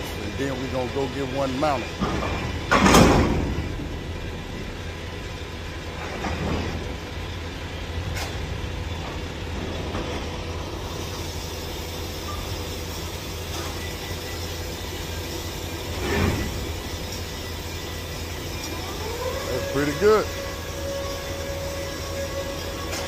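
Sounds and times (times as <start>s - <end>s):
heavy machinery rumble: 0.0s - 23.0s.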